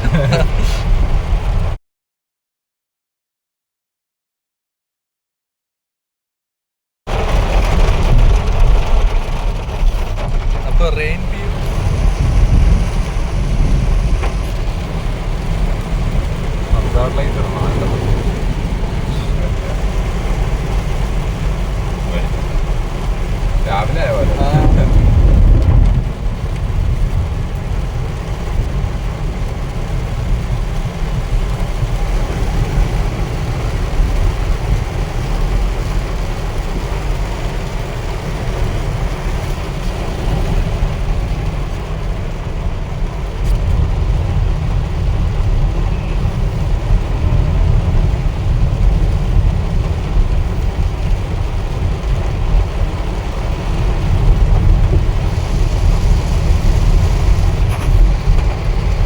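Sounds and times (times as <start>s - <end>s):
car engine and road rumble: 0.0s - 1.8s, 7.1s - 59.0s
rain on a car: 0.0s - 1.8s, 7.1s - 59.0s
tyres hissing on wet road: 0.0s - 1.8s, 7.1s - 59.0s.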